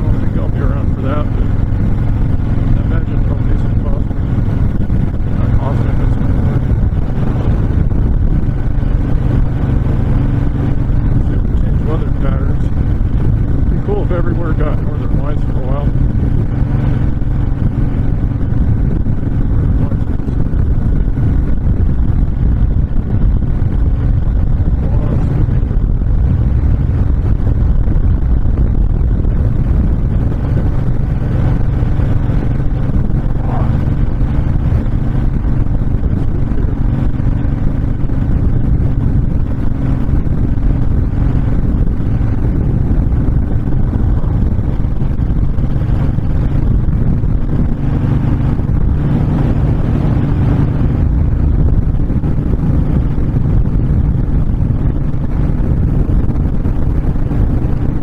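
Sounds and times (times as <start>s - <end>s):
motorcycle engine rumbling: 0.0s - 58.0s
wind rushing over microphone: 0.0s - 58.0s.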